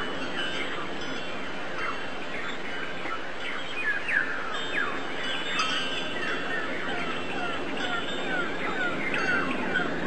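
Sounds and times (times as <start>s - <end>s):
birds chirping: 0.1s - 10.0s.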